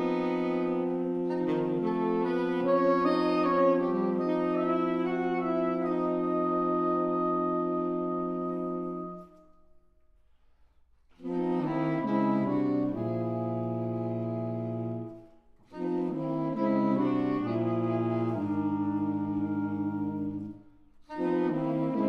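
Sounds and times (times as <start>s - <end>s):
saxophone quartet playing: 0.0s - 9.8s, 11.1s - 22.0s.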